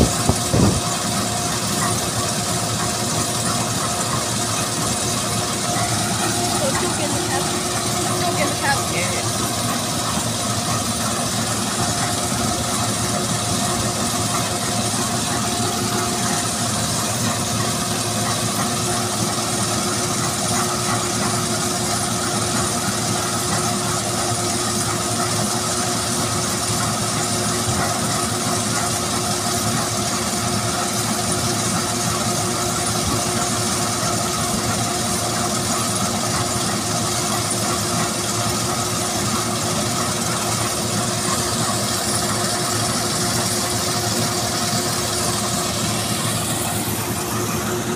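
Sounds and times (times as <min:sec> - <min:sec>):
combine harvester drone: 0:00.0 - 0:47.9.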